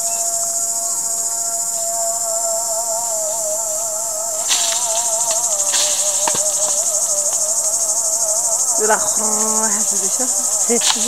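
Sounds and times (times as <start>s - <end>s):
insects singing: 0.0s - 11.0s.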